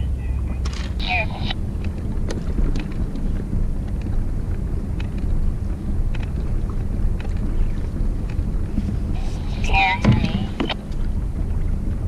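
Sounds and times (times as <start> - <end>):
wind buffeting microphone: 0.4 - 12.0.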